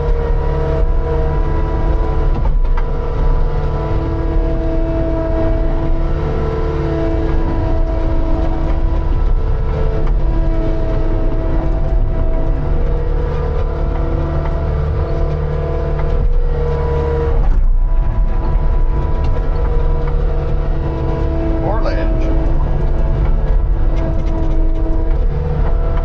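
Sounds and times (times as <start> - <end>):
heavy equipment diesel engine running: 0.0 - 26.0.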